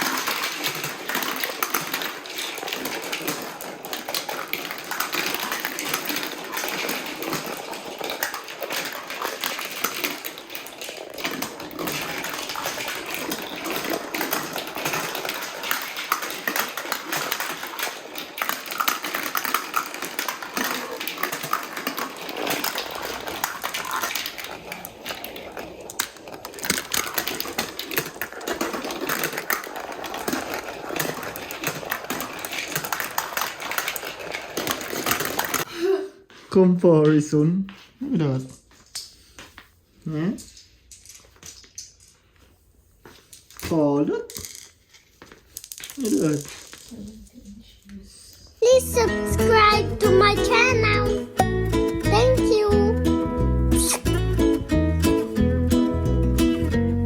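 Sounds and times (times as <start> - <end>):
marbles clacking through plastic track: 0.0 - 35.7, 40.1 - 42.3, 43.0 - 56.7.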